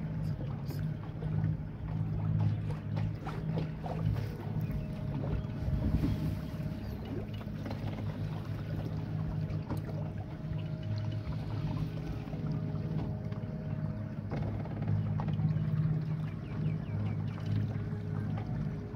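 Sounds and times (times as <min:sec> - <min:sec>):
boat motor humming: 0:00.0 - 0:18.9.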